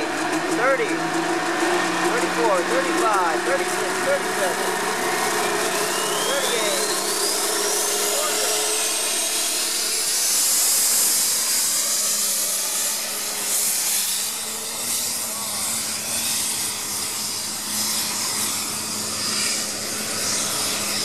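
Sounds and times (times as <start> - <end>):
high whine: 0.0 - 21.0
tractor engine at full throttle: 0.0 - 21.0.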